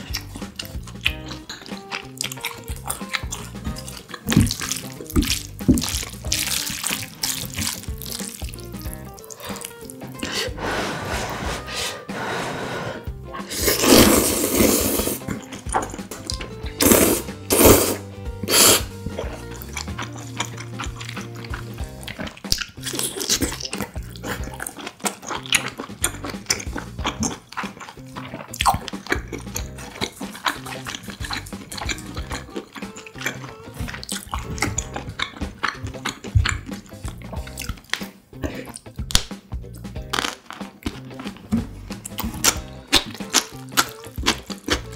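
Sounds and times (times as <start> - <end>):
wet chewing: 0.0 - 10.6, 13.3 - 44.9
noodles slurped: 0.0 - 38.9, 40.1 - 44.9.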